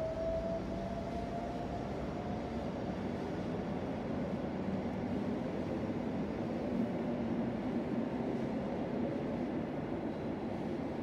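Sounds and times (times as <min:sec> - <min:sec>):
electric train rumble: 0:00.0 - 0:11.0
faint rising whine of train: 0:00.0 - 0:11.0.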